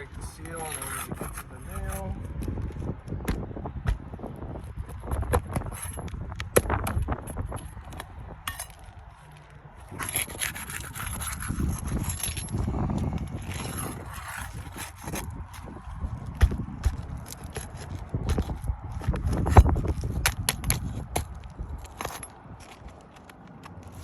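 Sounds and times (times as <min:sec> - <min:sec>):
pry tool scraping shingles: 0:00.1 - 0:02.4, 0:04.9 - 0:09.0, 0:09.8 - 0:24.0.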